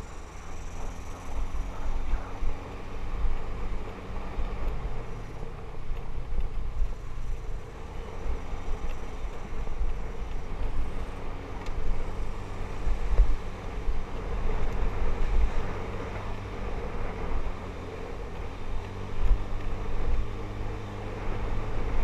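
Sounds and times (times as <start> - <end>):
motorbike engine running: 0.0 - 22.0.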